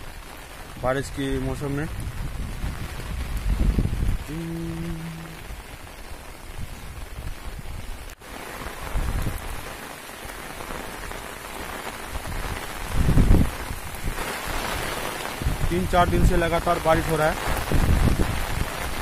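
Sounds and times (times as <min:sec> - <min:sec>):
rain falling on road: 0:00.0 - 0:19.0
wind buffeting microphone: 0:00.6 - 0:09.7, 0:12.1 - 0:19.0.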